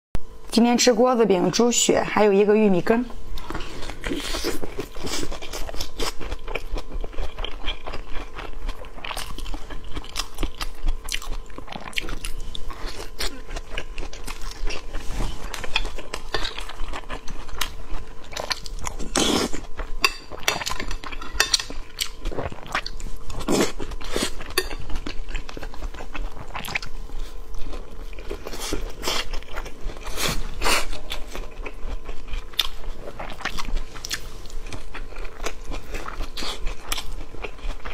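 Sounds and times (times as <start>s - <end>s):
person chewing and crunching: 3.3s - 37.9s.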